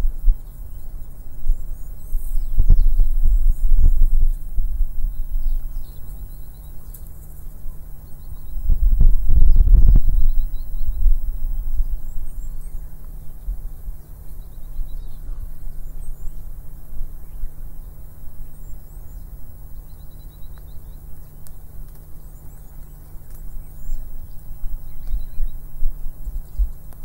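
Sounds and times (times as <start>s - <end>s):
bird chirps: 0.0s - 27.0s
faint hum: 0.0s - 27.0s
steady low rumble: 0.0s - 27.0s.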